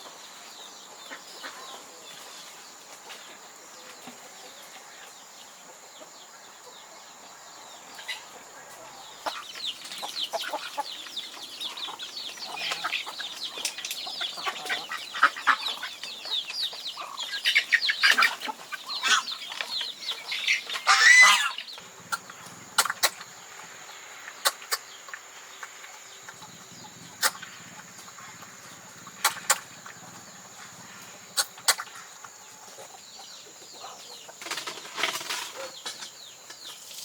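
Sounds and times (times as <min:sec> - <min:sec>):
chickens clucking: 0:00.0 - 0:37.0
loud flurry of chickens: 0:00.0 - 0:37.0.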